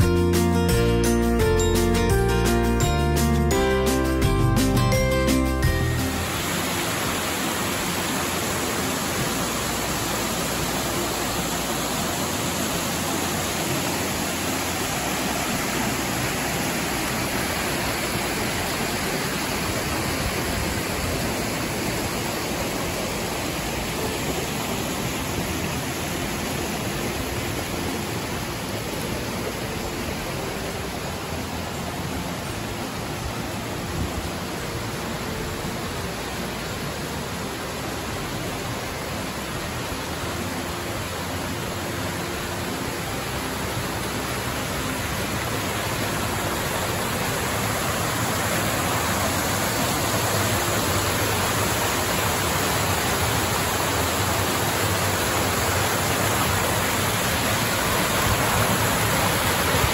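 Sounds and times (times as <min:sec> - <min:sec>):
waterfall rushing over rocks: 0:04.9 - 0:59.9.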